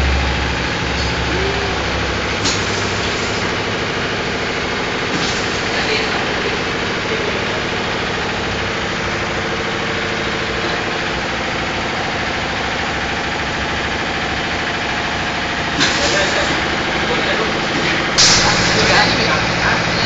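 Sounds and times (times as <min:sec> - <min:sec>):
machine motor humming: 0:00.0 - 0:20.0.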